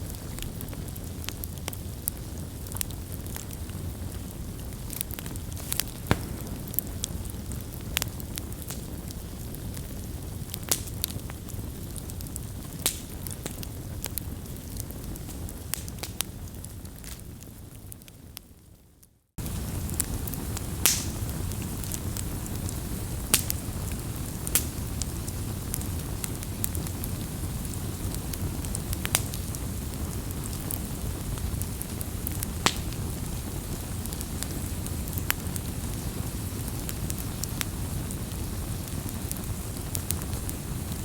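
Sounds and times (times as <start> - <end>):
campfire rumble and hiss: 0.0 - 41.0
fire crackles and pops: 0.0 - 41.0.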